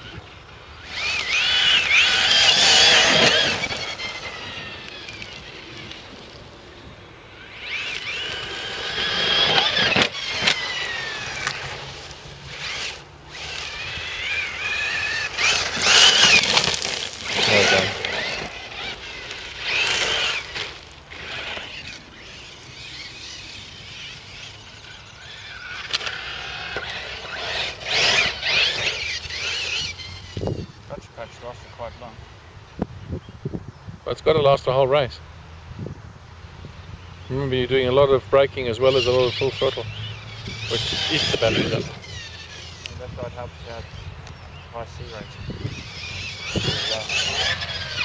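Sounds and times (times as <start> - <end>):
electric motor whining: 0.0 - 32.1, 37.6 - 48.0
tyres on loose gravel: 0.0 - 32.2, 37.2 - 48.0.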